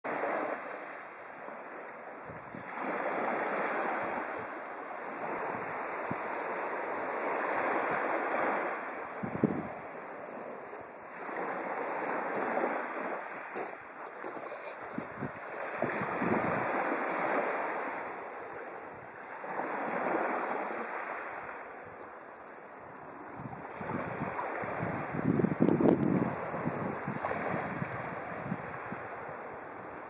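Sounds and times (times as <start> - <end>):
waves washing over pebbles: 0.1 - 21.7, 22.9 - 29.3.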